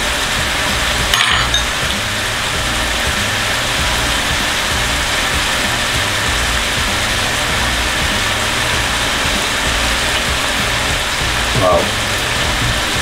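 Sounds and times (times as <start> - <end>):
choppy low hum: 0.0 - 13.0
steady hiss: 0.0 - 13.0.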